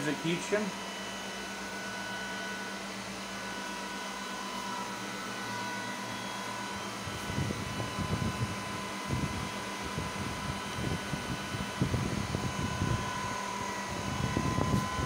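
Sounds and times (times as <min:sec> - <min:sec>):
cooling fans whirring: 0:00.0 - 0:15.0.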